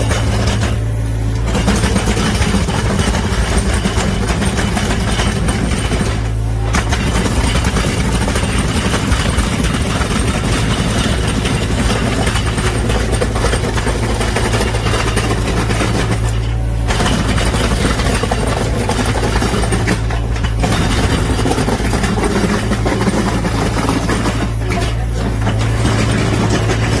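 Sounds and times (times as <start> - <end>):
diesel engine hum: 0.0 - 27.0
milling head grinding concrete: 0.0 - 27.0.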